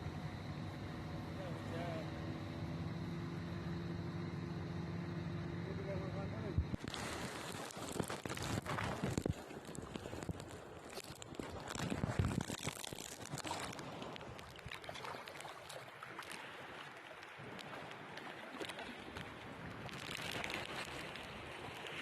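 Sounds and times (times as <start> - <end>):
moving water: 0.0 - 22.0.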